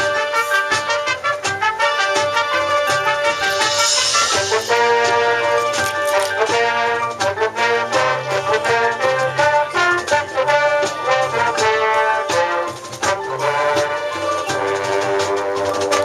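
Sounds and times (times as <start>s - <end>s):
brass chords: 0.0s - 16.0s
percussion hits: 0.0s - 16.0s.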